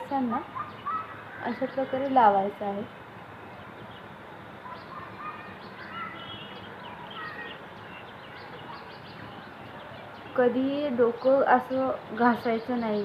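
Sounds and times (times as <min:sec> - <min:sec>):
birds chirping: 0:00.0 - 0:13.0
steady low hiss: 0:00.0 - 0:13.0.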